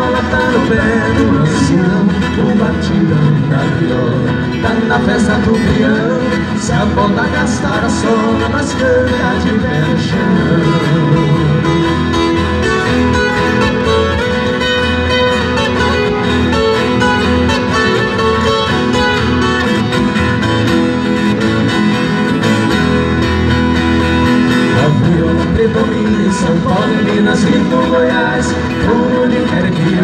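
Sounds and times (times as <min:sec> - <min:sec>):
acoustic guitar: 0:00.0 - 0:30.0.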